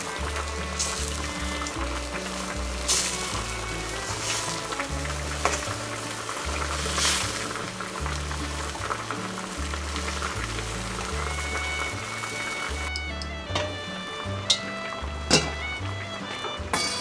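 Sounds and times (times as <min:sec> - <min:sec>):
ladle pouring liquid: 0:00.0 - 0:16.5
background music with bass line: 0:00.0 - 0:17.0
braising liquid bubbling and sizzling: 0:00.0 - 0:17.0.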